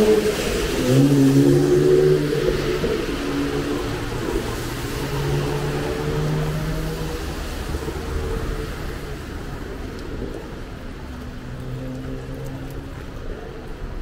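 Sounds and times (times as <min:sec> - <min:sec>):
rain hissing on wet road: 0:00.0 - 0:14.0
traffic passing: 0:00.0 - 0:14.0.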